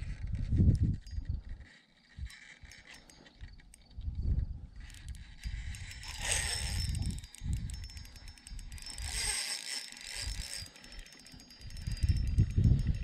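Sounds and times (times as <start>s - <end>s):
fishing reel drag clicking: 0.1s - 13.0s.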